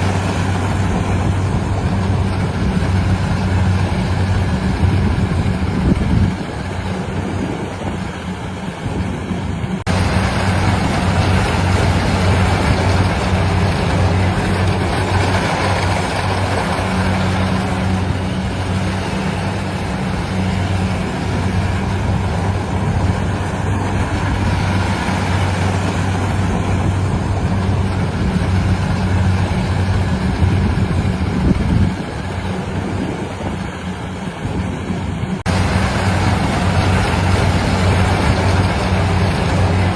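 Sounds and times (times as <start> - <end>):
heavy engine running with low hum: 0.0 - 39.9.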